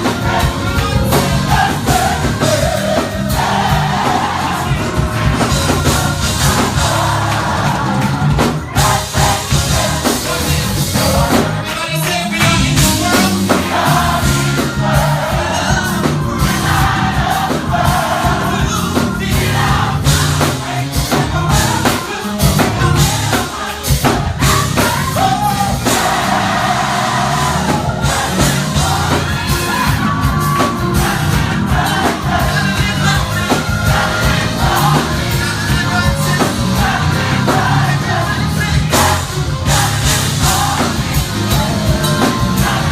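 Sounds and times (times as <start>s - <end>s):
band playing: 0.0s - 42.9s
crowd voices and shouts: 0.0s - 42.9s
gospel choir singing: 0.0s - 42.9s.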